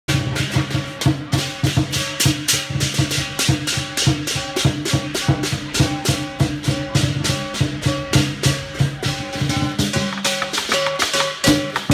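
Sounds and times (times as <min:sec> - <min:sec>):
crashing hand cymbals: 0:00.1 - 0:11.9
drum beating steady rhythm: 0:00.1 - 0:11.9.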